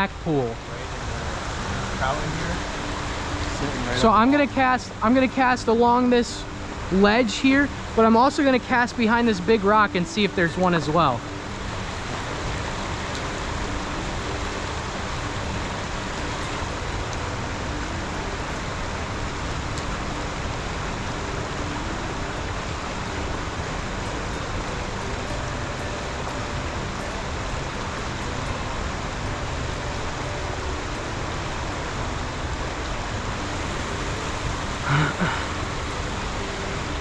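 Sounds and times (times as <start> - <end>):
creek water rushing over rocks: 0.0 - 37.0.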